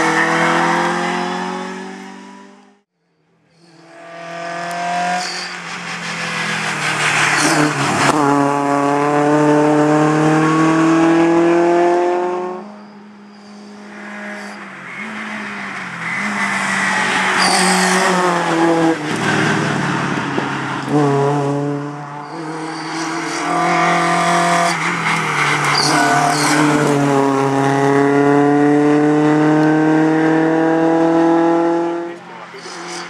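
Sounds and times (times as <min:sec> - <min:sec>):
rally car engine revving: 0:03.7 - 0:12.6, 0:14.4 - 0:33.0.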